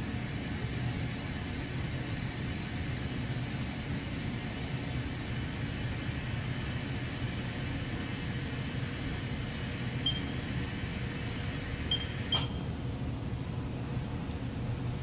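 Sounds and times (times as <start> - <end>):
machine motors and fans humming: 0.0 - 15.0.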